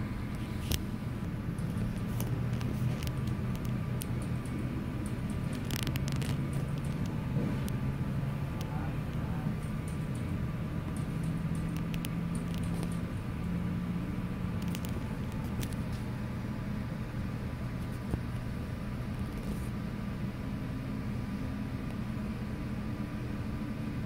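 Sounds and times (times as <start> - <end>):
muffled airport ground hum: 0.0 - 24.0.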